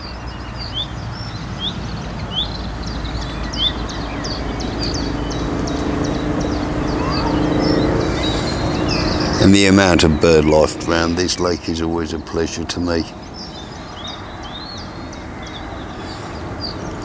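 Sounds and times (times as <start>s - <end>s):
distant engine rumble: 0.0s - 17.0s
small bird chirping: 0.0s - 17.0s
steady hum: 2.7s - 17.0s.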